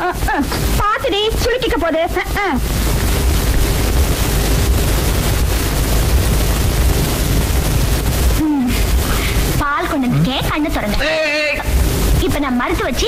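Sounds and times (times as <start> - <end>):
loud steady rushing noise: 0.0 - 13.0
deep rumble: 0.5 - 10.9, 11.6 - 13.0.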